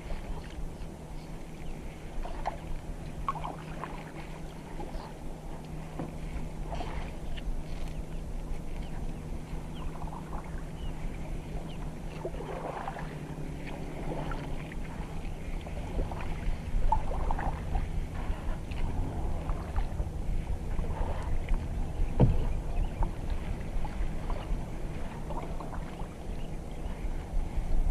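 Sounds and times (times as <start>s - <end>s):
low hum: 0.0s - 27.9s
paddle splashes: 0.0s - 27.9s.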